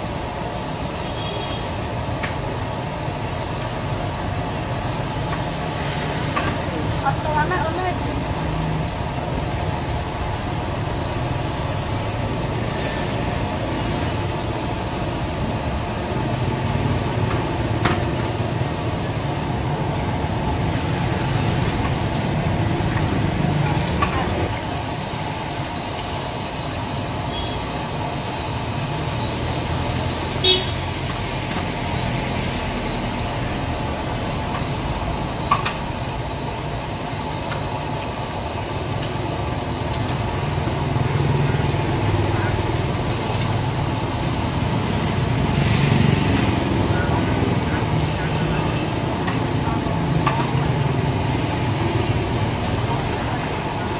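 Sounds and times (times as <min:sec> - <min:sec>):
food sizzling in deep fryer: 0:00.0 - 0:53.9
street traffic rumbling: 0:00.0 - 0:53.9.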